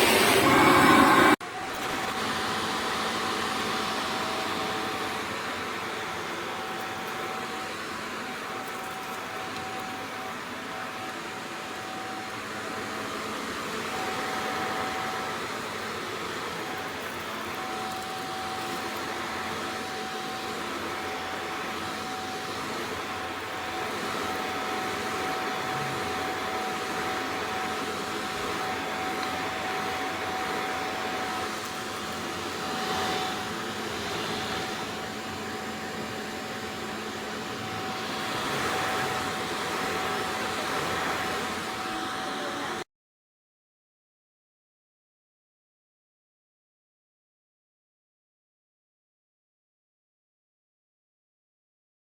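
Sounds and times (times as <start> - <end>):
vacuum cleaner running: 0.0 - 42.8.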